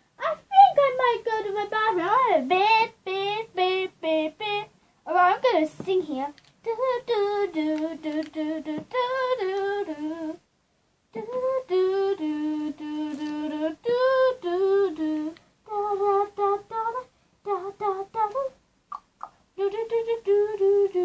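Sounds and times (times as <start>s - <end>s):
girl singing: 0.0s - 10.5s, 11.1s - 21.0s.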